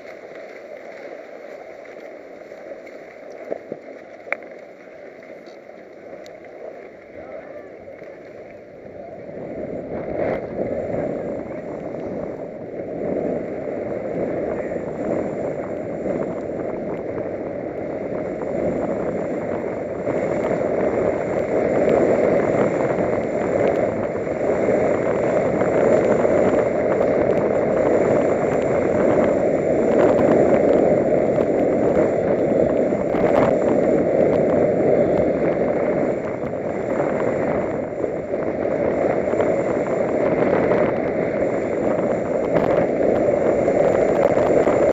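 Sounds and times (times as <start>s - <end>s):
skis carving snow: 0.0s - 44.9s
wind on microphone: 0.0s - 44.9s.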